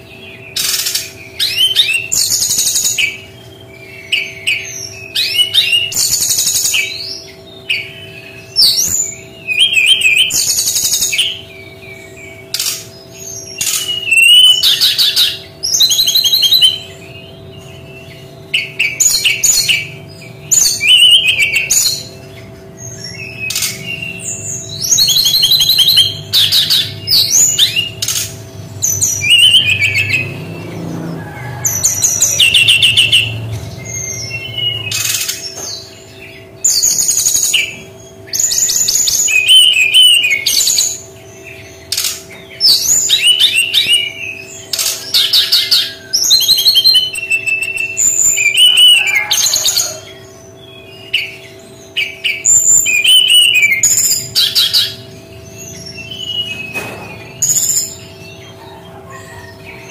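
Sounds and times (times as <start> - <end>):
bird singing trilled song: 0.0 - 59.9.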